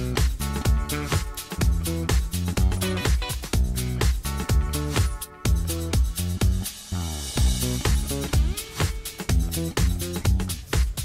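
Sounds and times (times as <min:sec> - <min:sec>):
upbeat dance music: 0:00.0 - 0:11.0.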